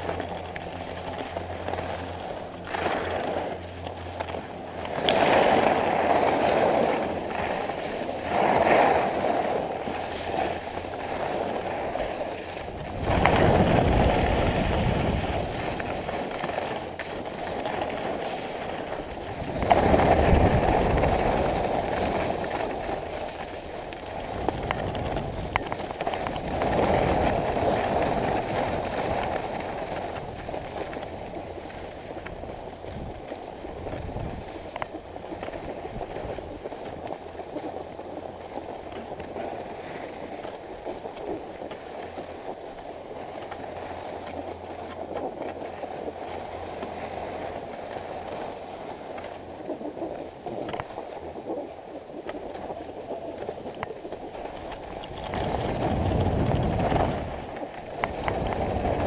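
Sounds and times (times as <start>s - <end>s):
skis scraping on packed snow: 0.0s - 59.0s.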